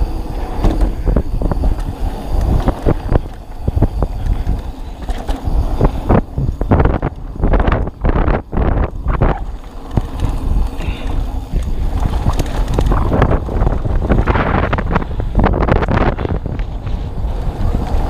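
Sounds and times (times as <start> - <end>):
bike knocks and rattles: 0.0 - 18.0
bike tyres rumbling on dirt: 0.0 - 18.0
wind buffeting microphone: 0.0 - 18.0.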